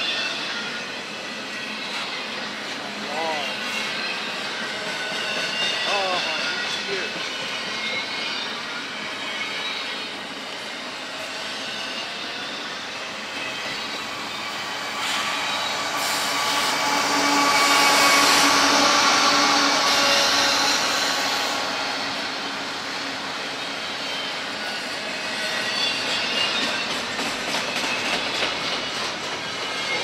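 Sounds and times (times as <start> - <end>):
diesel locomotive engine: 0.0 - 30.0
freight train rolling past: 0.0 - 30.0
wheel squeal: 3.7 - 30.0.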